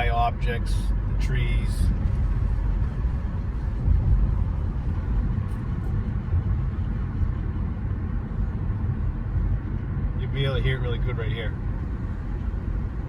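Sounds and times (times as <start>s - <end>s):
car road rumble from inside: 0.0s - 13.0s.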